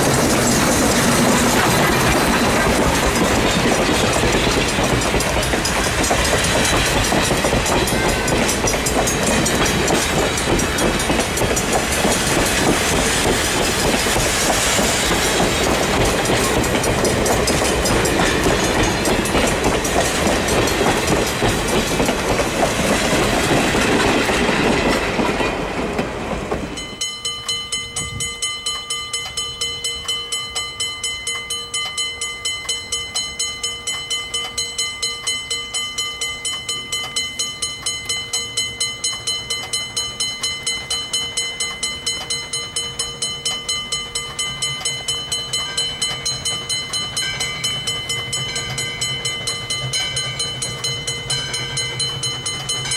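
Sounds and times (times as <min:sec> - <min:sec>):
wheels clacking over rail joints: 0:00.0 - 0:27.7, 0:33.9 - 0:52.9
train coaches rolling past: 0:00.0 - 0:52.9.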